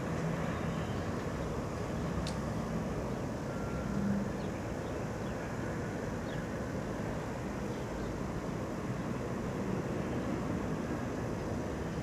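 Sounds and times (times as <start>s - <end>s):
distant train rumble: 0.0s - 12.0s.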